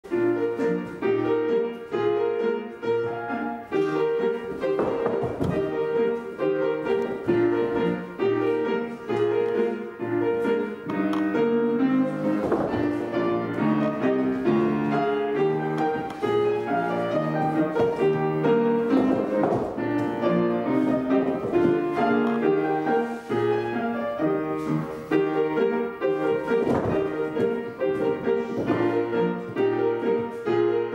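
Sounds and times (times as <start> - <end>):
classical piano tune: 0.0 - 30.9.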